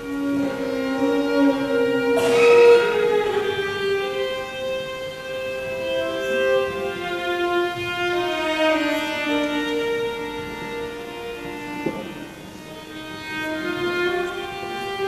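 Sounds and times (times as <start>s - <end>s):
solo violin slow melody: 0.0s - 15.0s.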